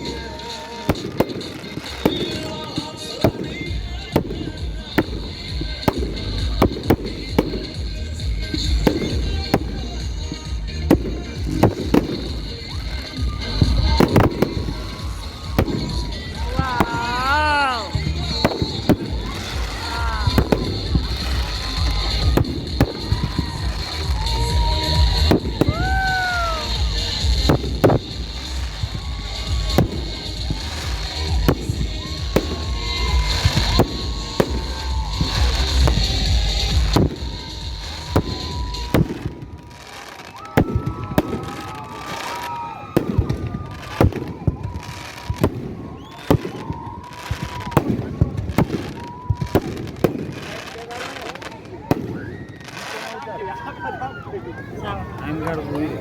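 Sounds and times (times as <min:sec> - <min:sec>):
firework bangs: 0:00.0 - 0:56.0.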